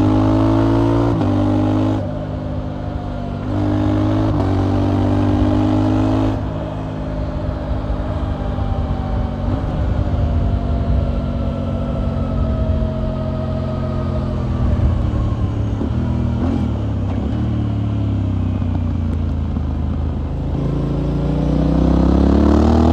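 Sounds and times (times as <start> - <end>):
motorcycle engine and exhaust: 0.0 - 22.9.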